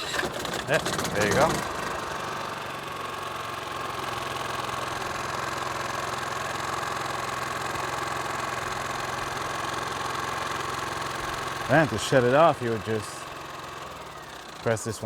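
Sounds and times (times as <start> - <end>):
generator engine humming with whine: 0.0 - 15.0.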